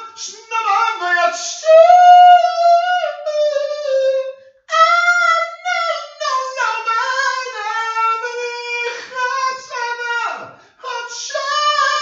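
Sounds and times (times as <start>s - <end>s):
high voice singing: 0.0s - 12.0s.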